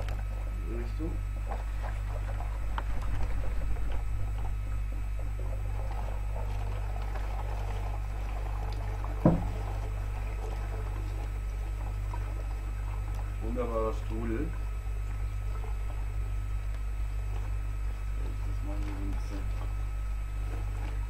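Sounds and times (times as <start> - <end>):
water gurgling between bottles: 0.0 - 21.0.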